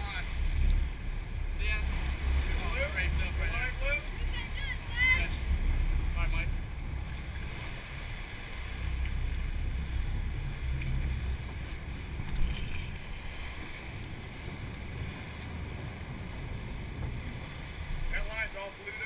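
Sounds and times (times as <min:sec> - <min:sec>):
wind on microphone: 0:00.0 - 0:18.2
boat engines running: 0:00.0 - 0:19.0
water rushing in wake: 0:00.0 - 0:19.0.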